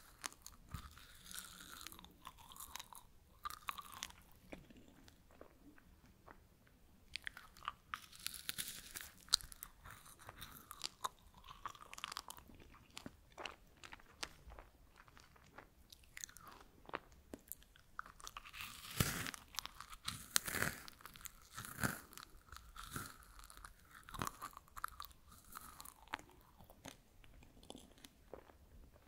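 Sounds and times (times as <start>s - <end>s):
crunchy chewing: 0.0s - 6.4s, 7.1s - 29.0s.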